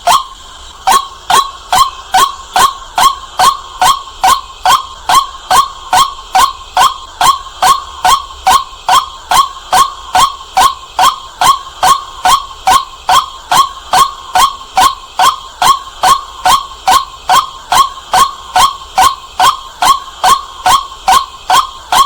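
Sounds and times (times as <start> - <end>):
bird calling kwak notes: 0.0 - 22.0.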